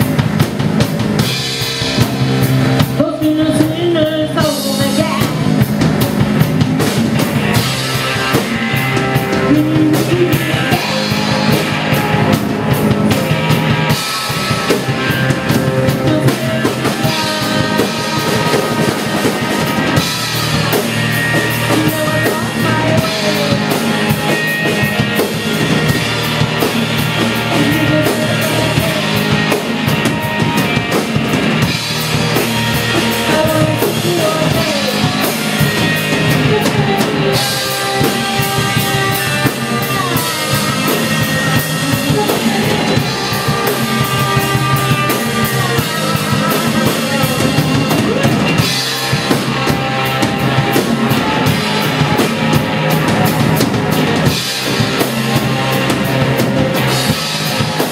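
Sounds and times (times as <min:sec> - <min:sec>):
electric guitar: 0:00.0 - 0:57.9
live rock band playing: 0:00.0 - 0:57.9
pounding drum kit: 0:00.0 - 0:57.9
person singing: 0:01.2 - 0:05.6, 0:07.4 - 0:57.9.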